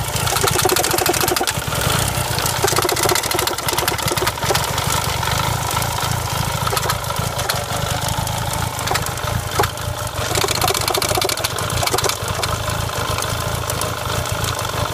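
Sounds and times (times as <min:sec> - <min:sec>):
misfiring car engine idling: 0:00.0 - 0:14.9.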